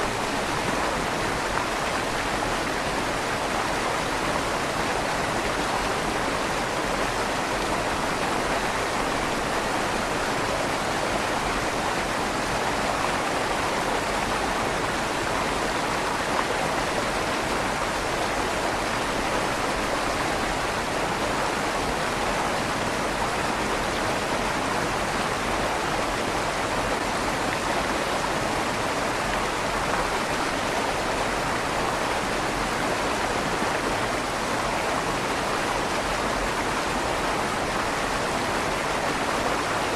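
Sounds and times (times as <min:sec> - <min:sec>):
river water rushing in tunnel: 0:00.0 - 0:39.9.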